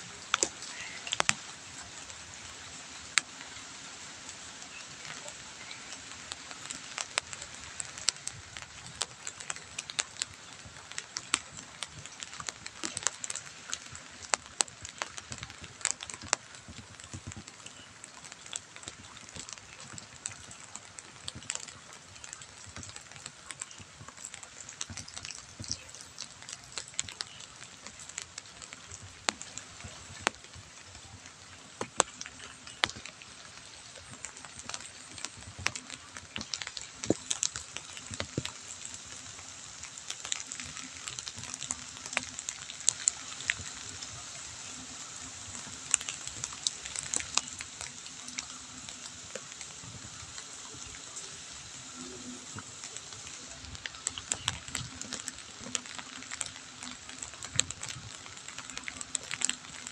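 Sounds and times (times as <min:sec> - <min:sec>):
drizzle falling on wet ground: 0:00.0 - 0:59.9
ticks of raindrops: 0:00.0 - 0:59.9.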